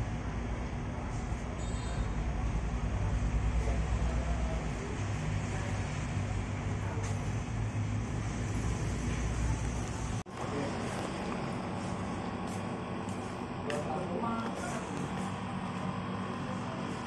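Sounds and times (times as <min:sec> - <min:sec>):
background traffic rumble: 0:00.0 - 0:17.0.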